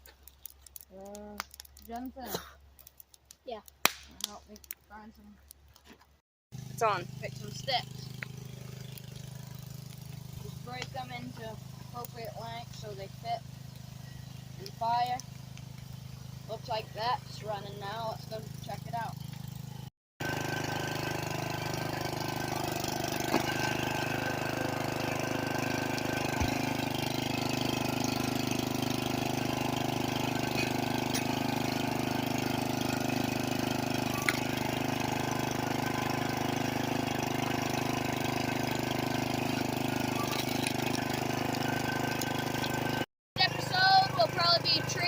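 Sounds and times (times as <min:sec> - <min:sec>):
chainsaw engine idling: 0:06.6 - 0:45.0.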